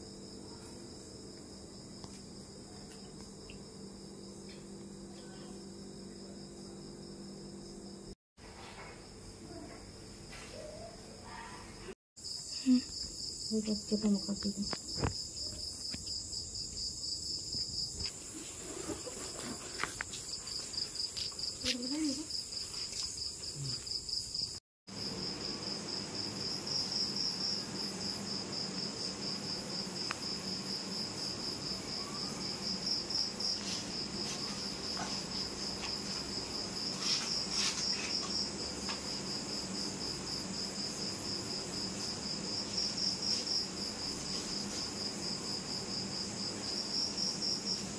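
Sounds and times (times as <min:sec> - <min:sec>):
crickets chirping: 0:00.0 - 0:08.2, 0:08.9 - 0:47.9.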